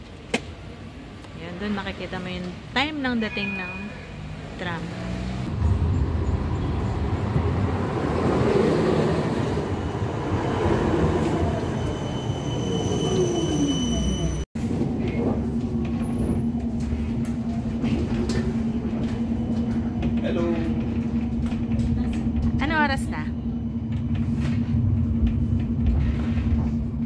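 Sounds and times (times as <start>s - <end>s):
tram rumbling with falling whine: 0.0s - 27.0s.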